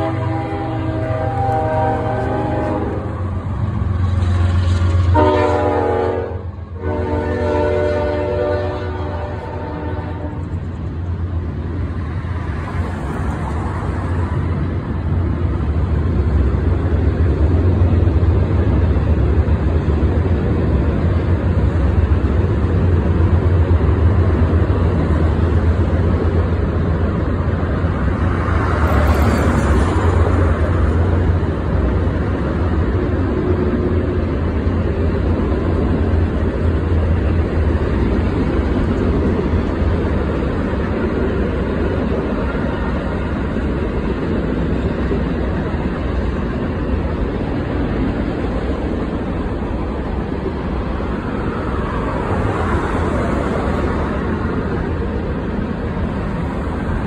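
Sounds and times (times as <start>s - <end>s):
freight train cars rumbling: 0.0s - 57.0s
road traffic passing: 0.0s - 57.0s.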